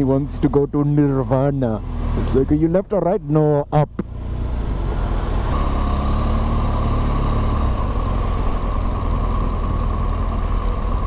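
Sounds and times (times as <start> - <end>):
motorcycle engine: 0.0 - 11.0
wind and road noise: 0.0 - 11.0.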